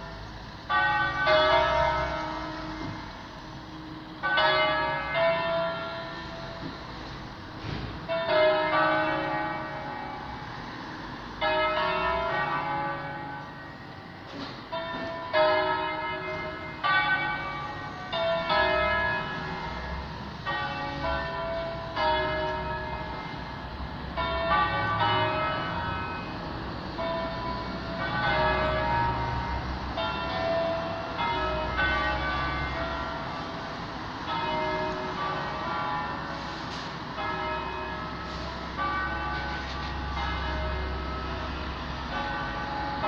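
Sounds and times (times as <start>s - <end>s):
church bells ringing: 0.0s - 43.0s.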